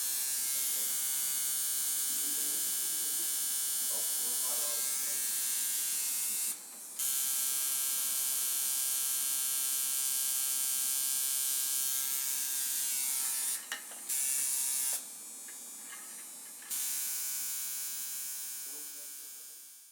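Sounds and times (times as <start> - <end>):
tattoo machine buzzing: 0.0 - 19.9.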